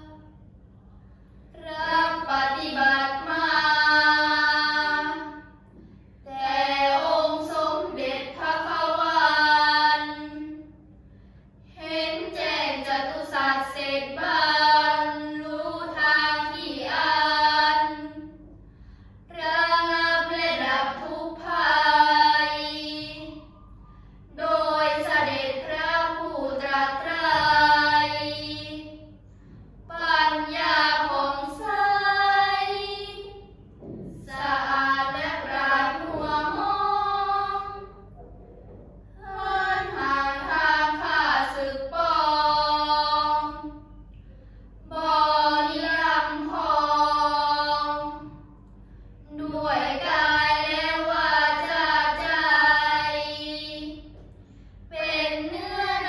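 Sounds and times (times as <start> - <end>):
girls chanting in unison: 0.0 - 0.3, 1.5 - 5.6, 6.2 - 10.8, 11.6 - 18.5, 19.3 - 23.5, 24.3 - 38.2, 39.1 - 44.0, 44.8 - 48.5, 49.2 - 54.2, 54.9 - 56.0.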